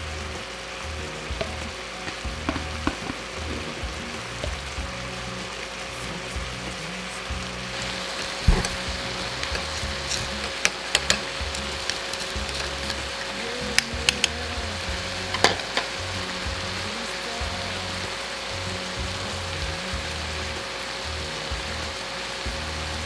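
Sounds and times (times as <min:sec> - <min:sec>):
background music: 0:00.0 - 0:23.0
steady hiss: 0:00.0 - 0:23.0.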